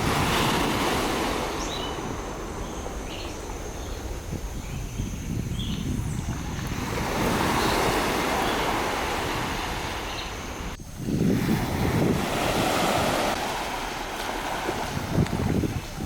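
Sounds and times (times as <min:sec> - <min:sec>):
ocean surf washing on shore: 0:00.0 - 0:04.6, 0:06.2 - 0:16.0
wind on microphone: 0:00.0 - 0:16.0.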